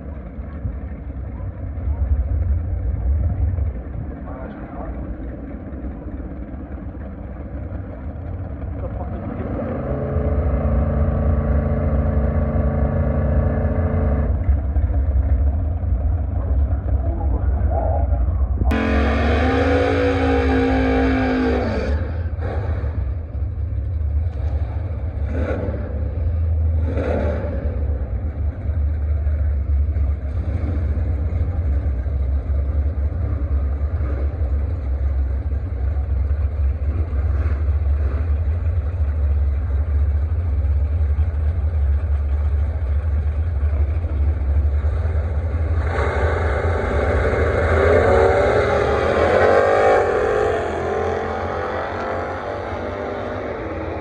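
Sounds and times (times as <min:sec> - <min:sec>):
steady low rumble: 0:00.0 - 0:19.6, 0:20.3 - 0:49.3
drag car engine roaring: 0:00.0 - 0:54.0.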